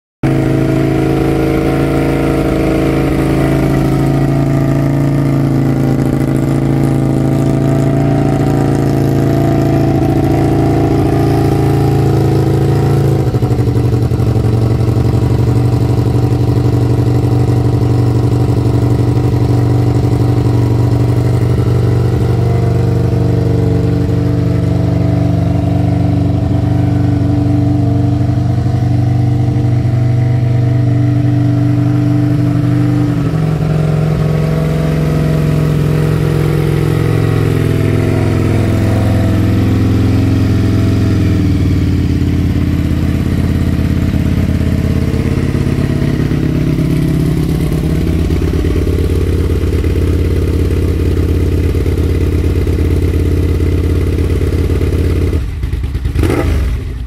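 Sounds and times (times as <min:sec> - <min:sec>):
motorcycle engine idling: 0:00.2 - 0:57.0.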